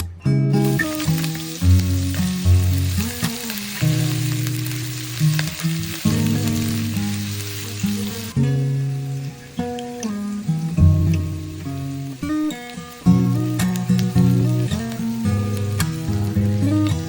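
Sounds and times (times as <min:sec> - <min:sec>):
acoustic guitar music: 0:00.0 - 0:17.0
food sizzling in oil: 0:00.6 - 0:17.0.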